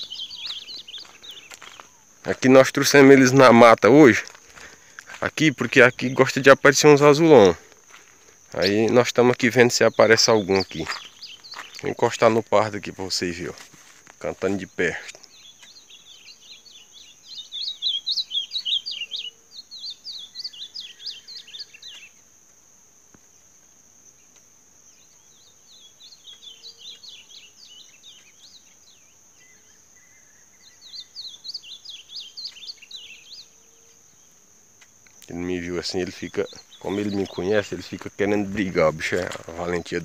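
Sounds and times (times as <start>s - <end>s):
bird singing warbled phrases: 0.0s - 22.3s, 24.1s - 40.0s
other birds singing: 0.0s - 22.4s, 23.2s - 40.0s.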